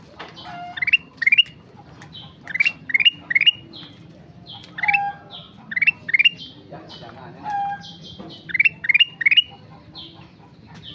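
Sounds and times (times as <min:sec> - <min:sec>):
bulbul singing: 0:00.4 - 0:10.9.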